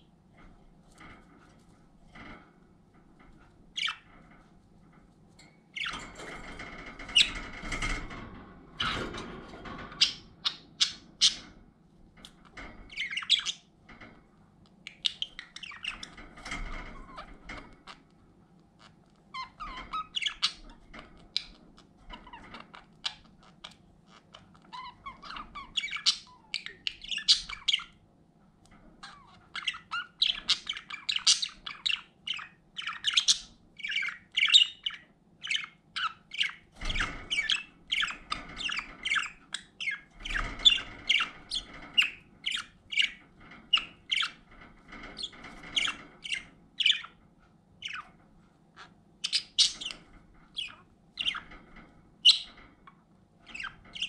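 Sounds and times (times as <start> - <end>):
budgerigars chirping and squawking: 3.8 - 4.2, 5.8 - 8.2, 8.8 - 11.6, 12.2 - 13.7, 14.7 - 18.1, 18.8 - 28.0, 29.0 - 47.2, 47.8 - 54.0.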